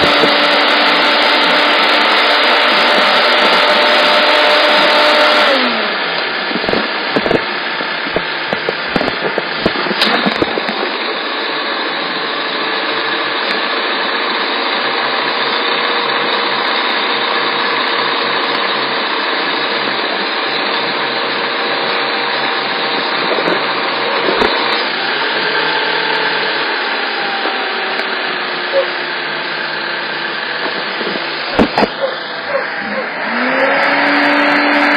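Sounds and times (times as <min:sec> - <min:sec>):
compressor whirring and grinding: 0:00.0 - 0:34.9.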